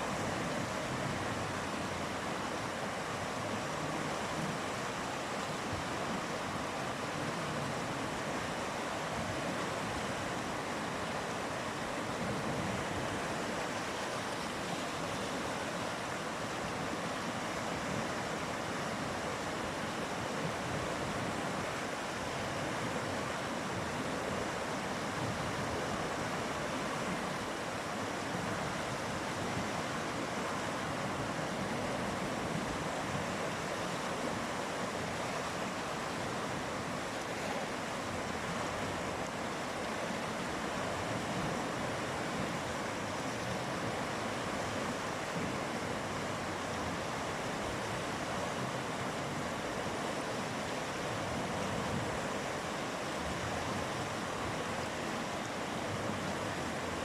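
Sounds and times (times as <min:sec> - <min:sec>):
river flowing swiftly: 0:00.0 - 0:57.0.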